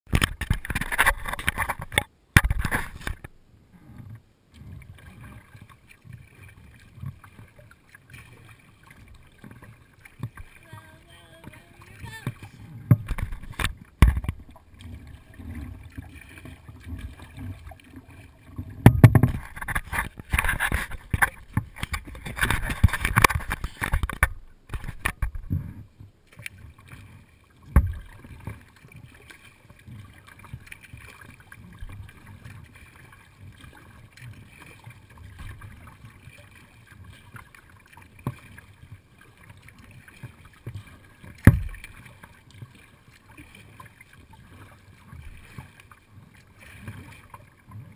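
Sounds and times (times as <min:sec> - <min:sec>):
water splashing against kayak hull: 0:00.1 - 0:47.9.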